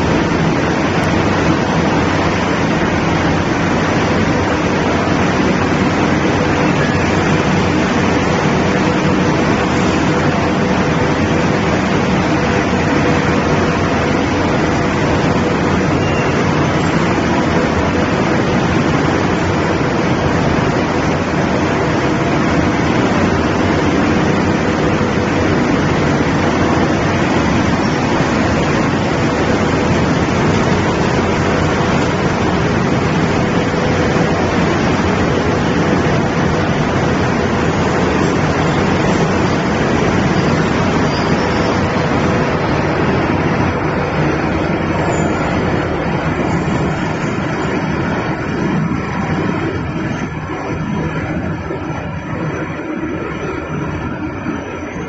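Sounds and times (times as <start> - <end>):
machine noise: 0.0 - 55.0.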